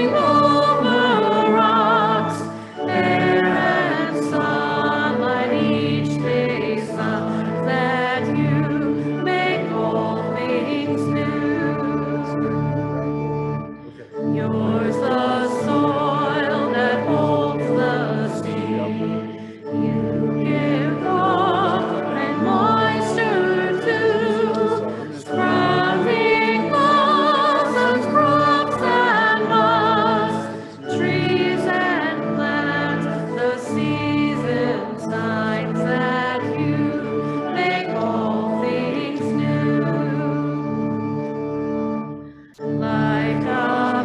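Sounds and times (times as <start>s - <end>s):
person singing a hymn: 0.0s - 44.0s
sustained instrumental accompaniment: 0.0s - 44.0s.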